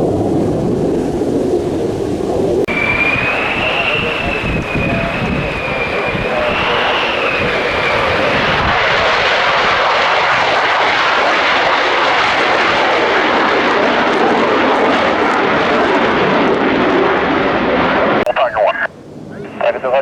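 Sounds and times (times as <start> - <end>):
jet engine roar: 0.0 - 20.0
high whine: 2.2 - 20.0.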